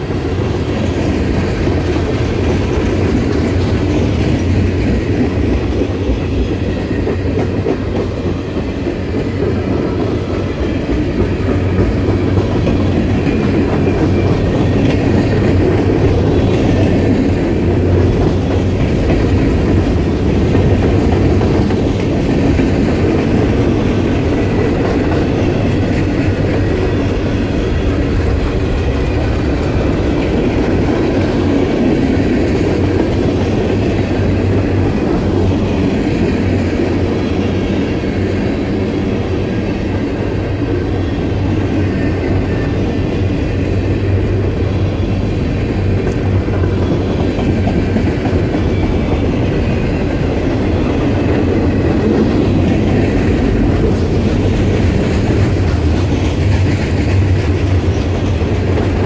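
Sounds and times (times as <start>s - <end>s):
freight train cars rolling past: 0.0s - 59.0s
steel wheels rumbling on rails: 0.0s - 59.0s.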